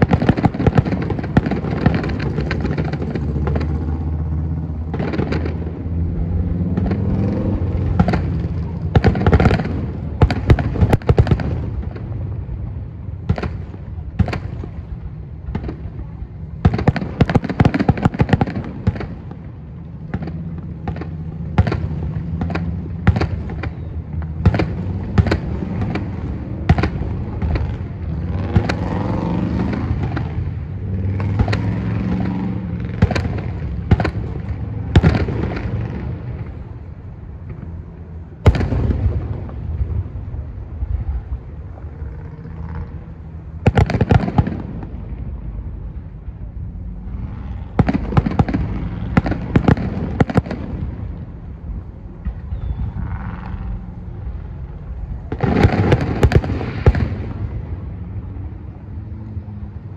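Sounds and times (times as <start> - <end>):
fireworks bursting: 0.0 - 41.6, 42.3 - 58.2.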